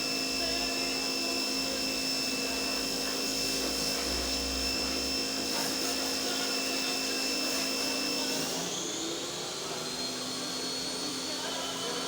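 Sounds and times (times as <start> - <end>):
motor high whine: 0.0 - 12.0.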